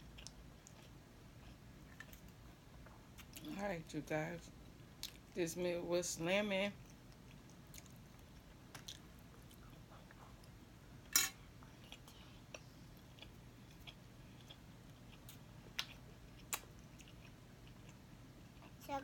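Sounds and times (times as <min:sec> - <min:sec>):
soft chewing: 0:00.0 - 0:03.6, 0:04.5 - 0:05.4, 0:06.7 - 0:19.0.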